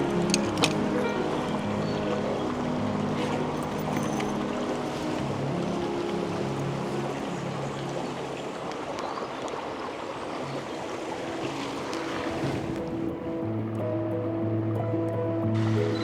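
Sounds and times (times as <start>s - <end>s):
soft music of long low notes: 0.0s - 16.0s.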